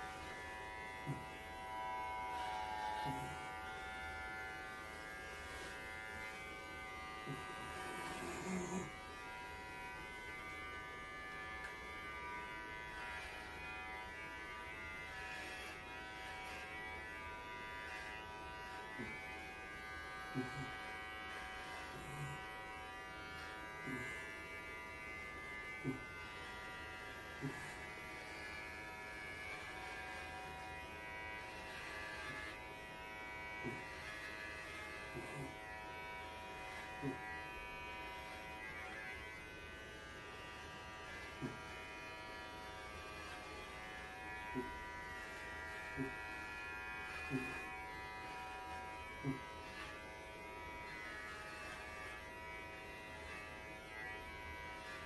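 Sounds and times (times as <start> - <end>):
electric clippers buzzing: 0.0 - 55.0.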